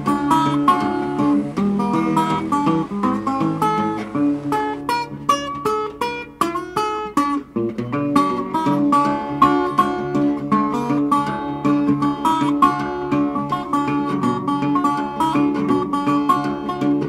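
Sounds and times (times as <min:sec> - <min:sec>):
acoustic blues guitar music: 0:00.0 - 0:17.0.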